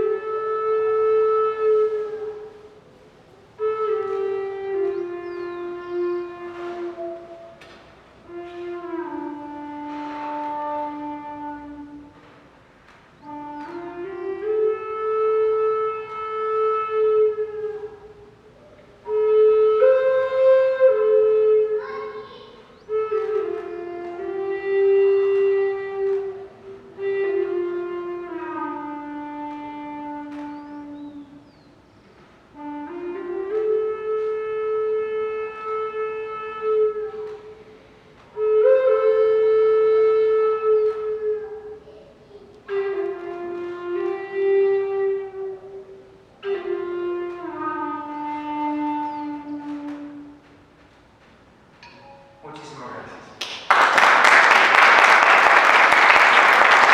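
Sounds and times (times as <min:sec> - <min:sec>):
wind instrument held notes: 0:00.0 - 0:56.9.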